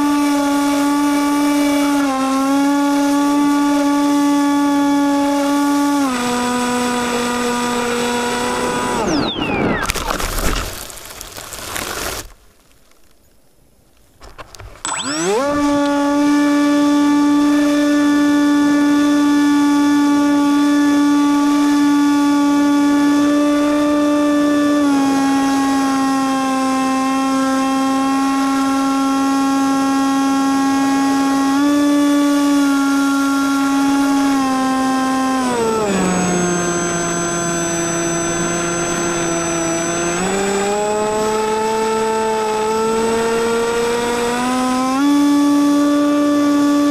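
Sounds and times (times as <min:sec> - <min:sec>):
model airplane motor droning: 0:00.0 - 0:10.8, 0:14.8 - 0:46.9.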